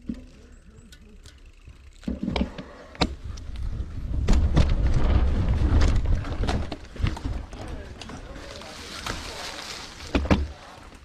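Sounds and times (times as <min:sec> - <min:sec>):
mountain bike rattling on trail: 0:00.0 - 0:11.0.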